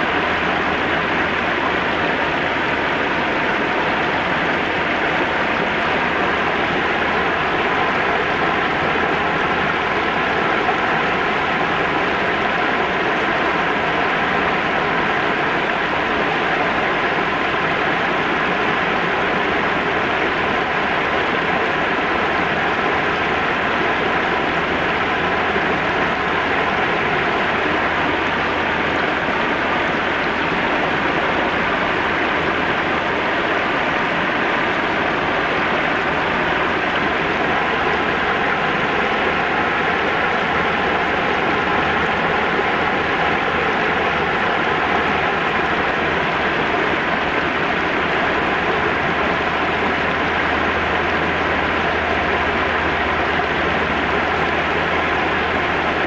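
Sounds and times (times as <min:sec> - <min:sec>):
river water rushing over weir: 0:00.0 - 0:56.0.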